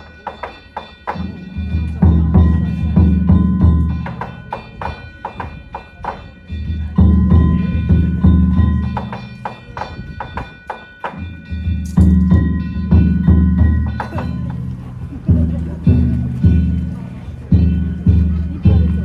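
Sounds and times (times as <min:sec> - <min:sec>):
hand gongs struck rhythmically: 0:00.0 - 0:19.0
big drum beating: 0:01.1 - 0:19.0.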